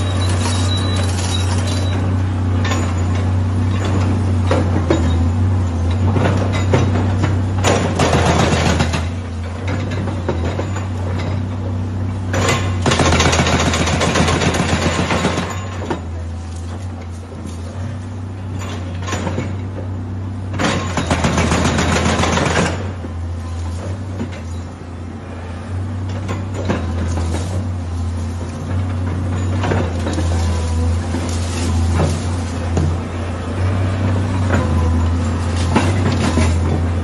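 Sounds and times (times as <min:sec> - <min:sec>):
excavator engine humming: 0:00.0 - 0:37.0.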